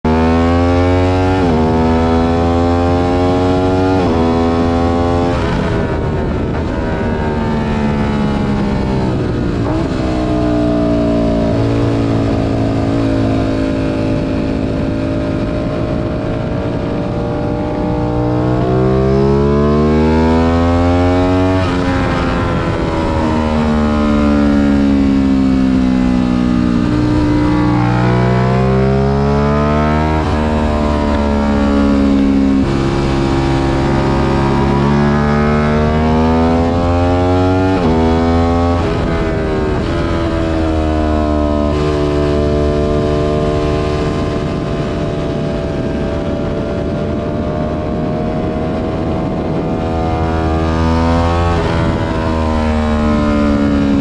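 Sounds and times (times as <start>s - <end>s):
motorcycle engine accelerating: 0.0s - 54.0s
wind rush: 3.7s - 54.0s.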